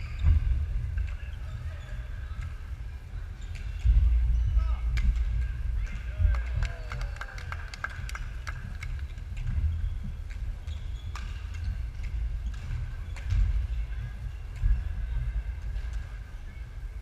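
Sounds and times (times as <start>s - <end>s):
low rumble of hall: 0.0s - 17.0s.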